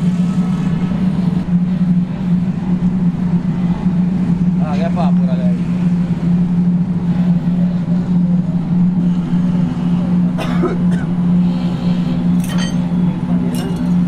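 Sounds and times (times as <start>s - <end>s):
motor droning: 0.0s - 14.0s.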